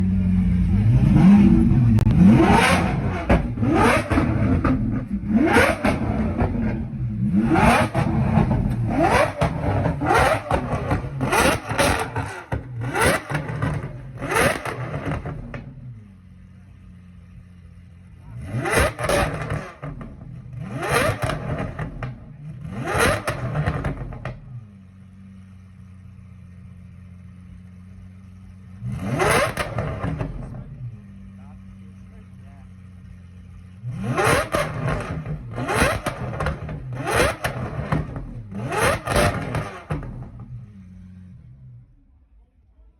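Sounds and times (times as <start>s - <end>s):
car engine revving: 0.0s - 42.4s
car engine idling: 0.0s - 42.9s.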